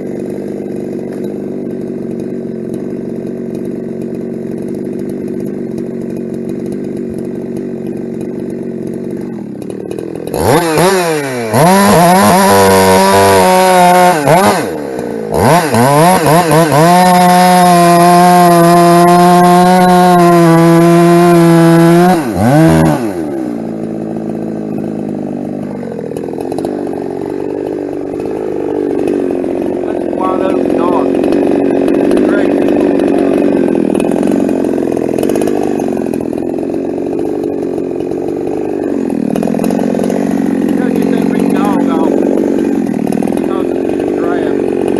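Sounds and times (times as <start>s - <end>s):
chainsaw revving and sawing: 0.0s - 44.9s.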